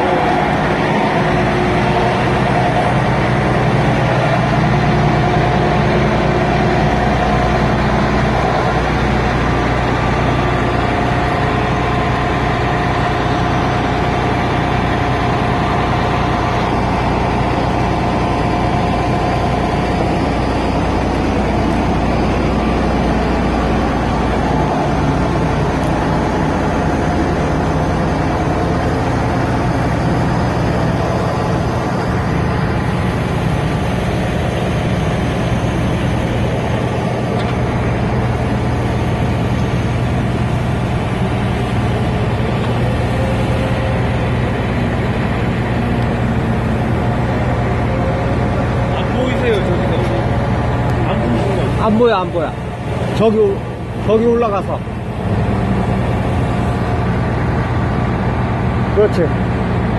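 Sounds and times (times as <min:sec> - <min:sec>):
heavy machinery engine droning: 0:00.0 - 0:59.9.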